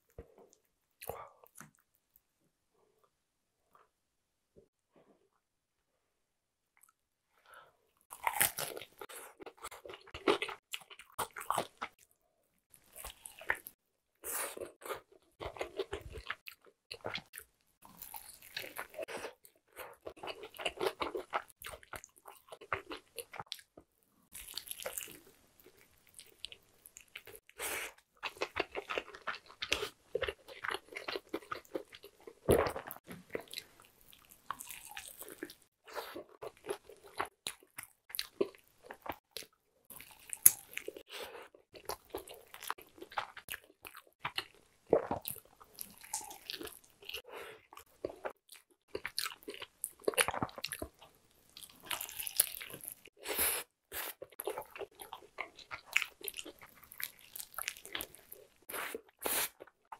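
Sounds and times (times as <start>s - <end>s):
crunching bites and chewing: 8.1s - 12.1s, 12.7s - 27.6s, 28.2s - 53.3s, 53.9s - 59.9s.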